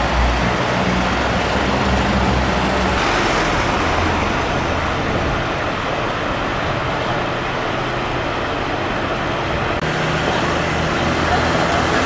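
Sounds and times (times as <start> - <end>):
diesel engines rumbling: 0.0 - 12.0
road noise: 0.0 - 12.0.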